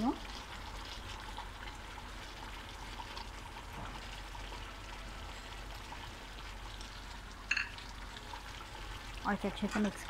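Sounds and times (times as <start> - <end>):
gravy bubbling and frying: 0.0 - 10.0.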